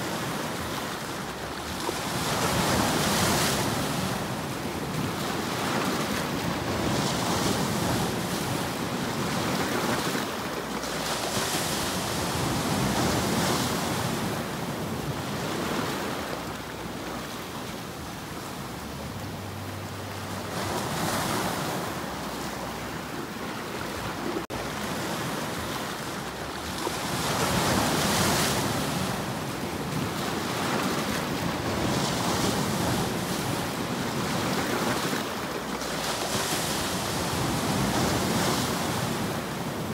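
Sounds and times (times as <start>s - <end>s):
waves breaking over rocks: 0.0s - 19.4s, 20.2s - 39.9s.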